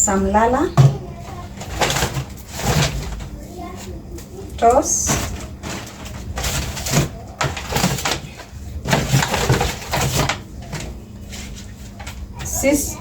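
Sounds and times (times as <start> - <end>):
low steady hum: 0.0 - 13.0
grocery packaging rustling: 0.2 - 13.0.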